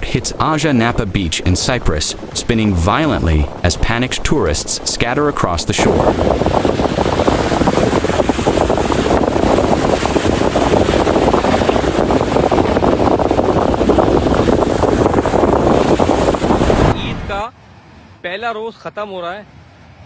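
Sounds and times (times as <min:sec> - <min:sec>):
strong wind buffeting microphone: 0:00.0 - 0:17.5.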